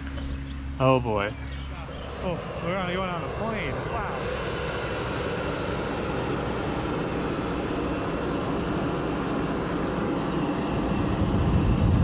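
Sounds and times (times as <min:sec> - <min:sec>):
airliner engine noise: 0:00.0 - 0:12.0.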